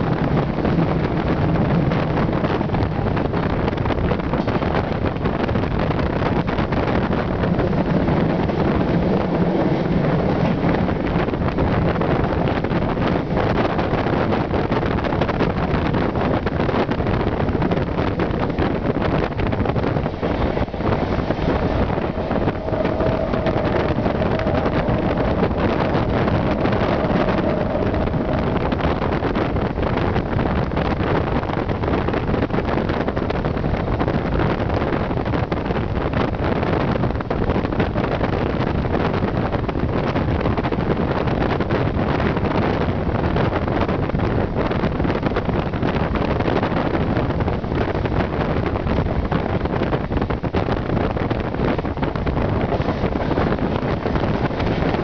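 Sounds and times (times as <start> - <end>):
train running on track: 0.0 - 55.0
wind rushing over microphone: 0.0 - 55.0.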